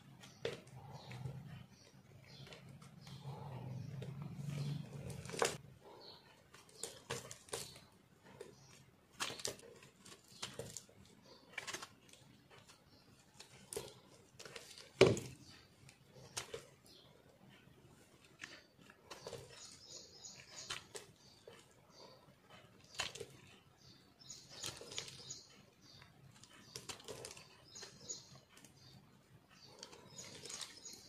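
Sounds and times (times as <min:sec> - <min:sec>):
knife shaving soap: 0:00.1 - 0:31.0
soap crunching and crackling: 0:00.2 - 0:05.6, 0:06.5 - 0:15.4, 0:18.2 - 0:22.2, 0:22.8 - 0:28.9, 0:29.7 - 0:31.0.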